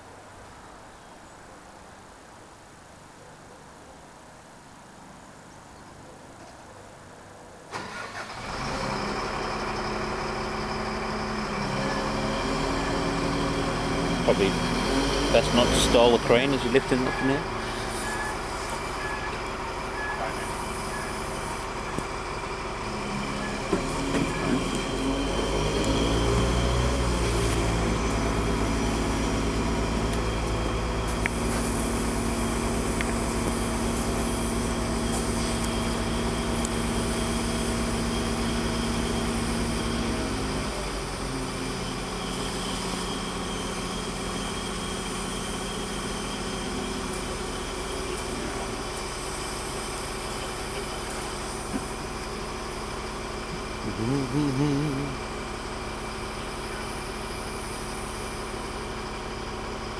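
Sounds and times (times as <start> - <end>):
crane engine running: 7.0 - 59.9.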